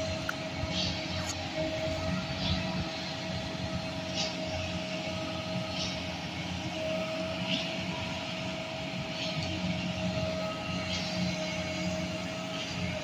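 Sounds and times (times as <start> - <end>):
diesel engines rumbling: 0.0 - 13.0
engine whine: 0.0 - 13.0.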